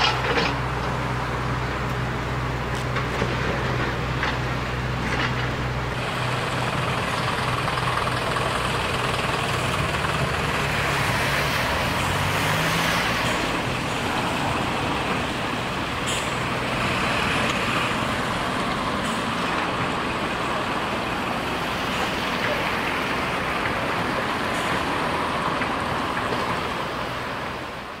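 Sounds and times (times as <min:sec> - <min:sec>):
excavator diesel engine under load: 0:00.0 - 0:28.0.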